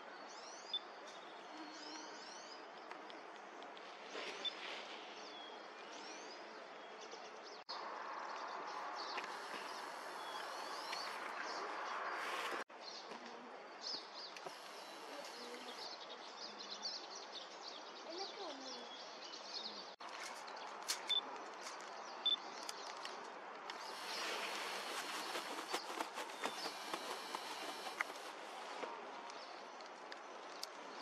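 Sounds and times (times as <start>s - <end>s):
small birds chirping: 0.1s - 31.0s.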